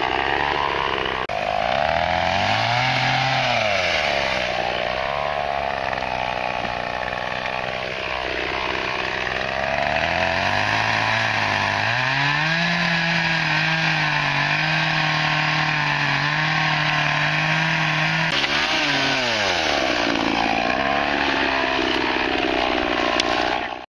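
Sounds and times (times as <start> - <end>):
chainsaw revving: 0.0 - 23.9.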